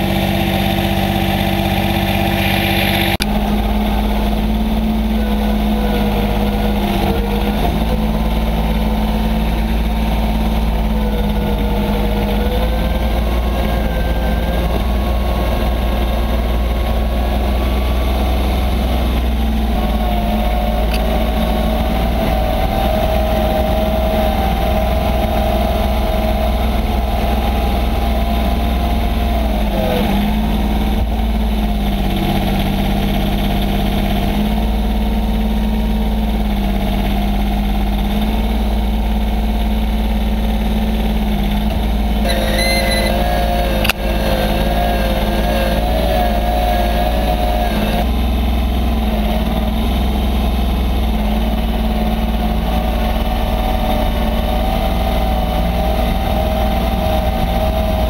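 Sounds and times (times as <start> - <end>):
wavering hydraulic whine: 0.0 - 32.0, 41.6 - 58.0
tractor diesel engine running: 0.0 - 58.0.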